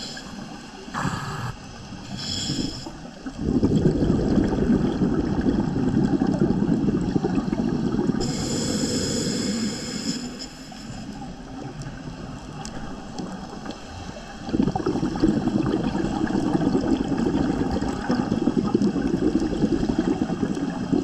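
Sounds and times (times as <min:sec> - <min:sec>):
underwater exhaust bubbles: 0:00.0 - 0:21.0.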